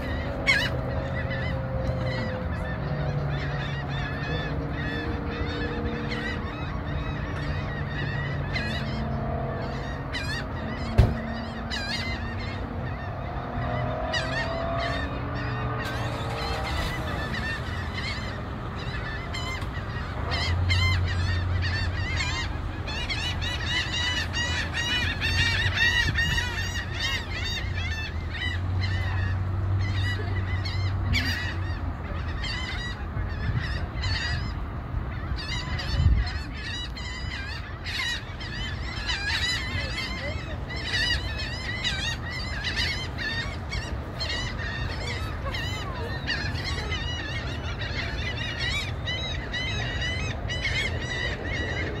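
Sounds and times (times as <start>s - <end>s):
flock of water birds calling: 0.0s - 52.0s.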